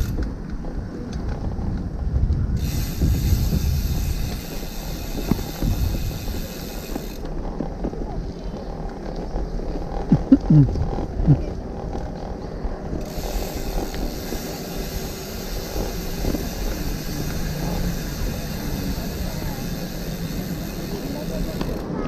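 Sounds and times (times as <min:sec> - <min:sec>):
tyre and road rumble: 0:00.0 - 0:22.0
wind buffeting microphone: 0:00.0 - 0:22.0.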